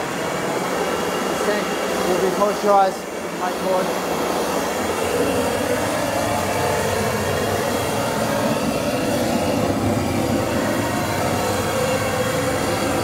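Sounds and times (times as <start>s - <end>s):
gas torch roaring: 0.0s - 13.0s.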